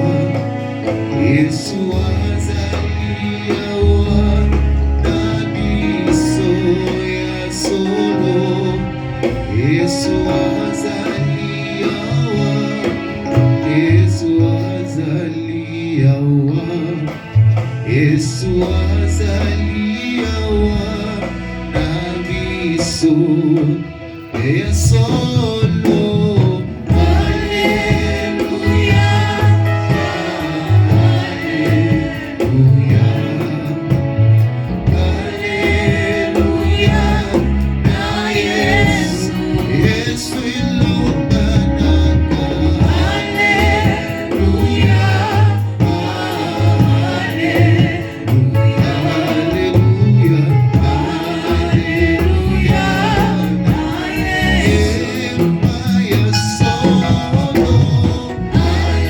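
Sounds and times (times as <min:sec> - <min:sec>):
deep pulsing bass line: 0:00.0 - 0:23.6, 0:24.6 - 0:59.0
choir singing over a band: 0:00.0 - 0:59.0.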